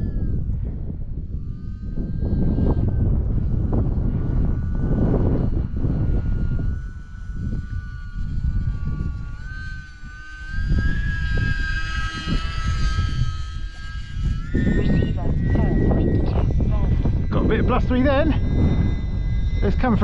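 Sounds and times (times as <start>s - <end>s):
model plane motor whining: 0.0s - 20.0s
wind buffeting microphone: 0.0s - 20.0s.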